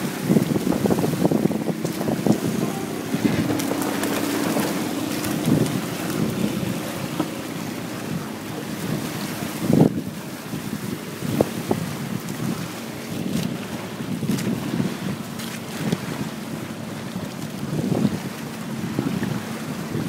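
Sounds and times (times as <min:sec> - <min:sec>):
water splashing against hulls: 0:00.0 - 0:20.0
wind buffeting microphone: 0:00.0 - 0:20.0.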